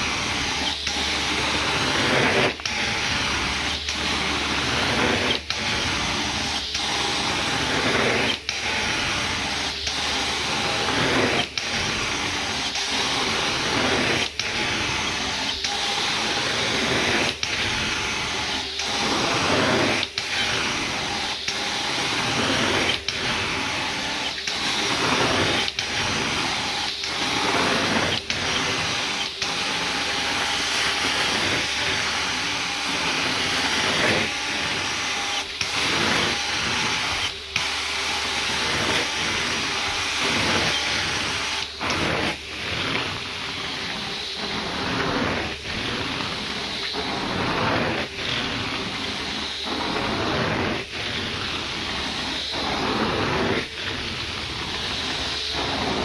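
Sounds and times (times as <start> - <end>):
extraction wand suction rushing: 0.0 - 56.0.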